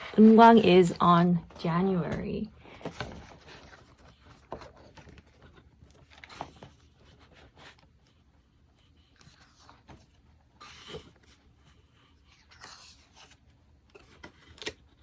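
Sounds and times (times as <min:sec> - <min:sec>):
paper rustling: 0:02.1 - 0:15.0.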